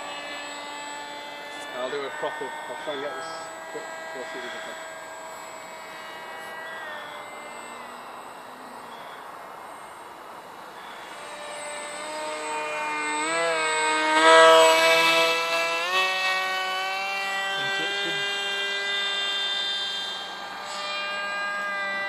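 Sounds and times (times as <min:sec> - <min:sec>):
model jet motor whine: 0:00.0 - 0:22.0.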